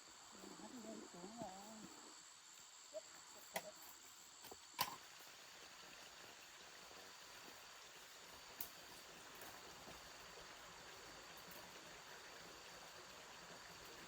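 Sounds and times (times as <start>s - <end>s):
faint insect drone: 0.0s - 14.0s.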